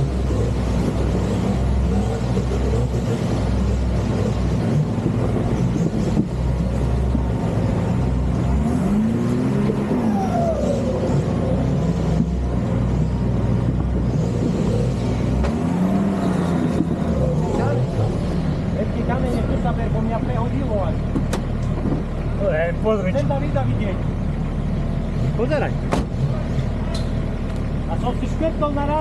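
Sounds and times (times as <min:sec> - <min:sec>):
off-road vehicle engine under load: 0:00.0 - 0:29.0.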